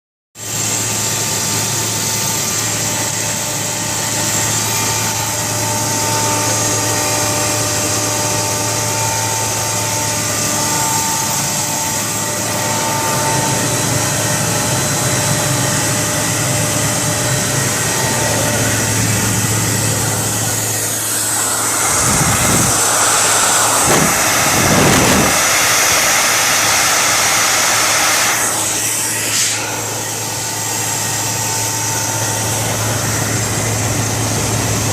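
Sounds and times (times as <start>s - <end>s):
air compressor humming: 0.4s - 34.9s
loud rushing noise: 2.9s - 34.9s.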